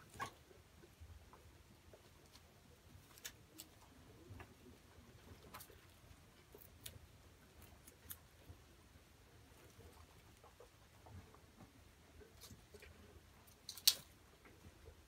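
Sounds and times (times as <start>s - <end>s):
guinea pigs crunching food: 0.0s - 15.0s.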